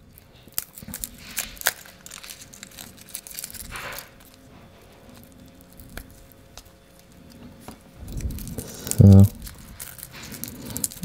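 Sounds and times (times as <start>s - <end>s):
garlic skins rustling and tearing: 0.0s - 11.0s
small sharp crackles: 0.0s - 11.0s.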